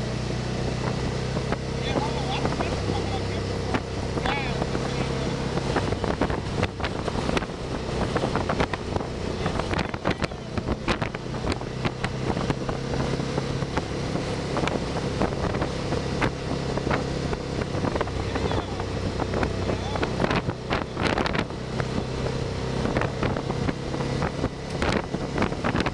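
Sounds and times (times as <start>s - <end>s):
motorcycle engine running: 0.0s - 25.9s
wind buffeting microphone: 0.0s - 25.9s.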